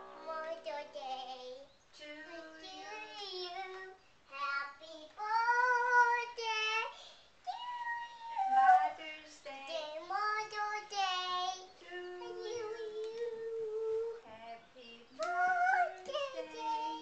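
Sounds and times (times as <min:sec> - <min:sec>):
girl singing in a high voice: 0:00.0 - 0:17.0.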